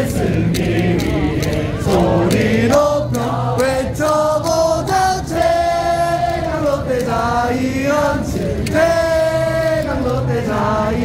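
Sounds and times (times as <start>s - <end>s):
crowd singing in unison: 0.0s - 11.0s.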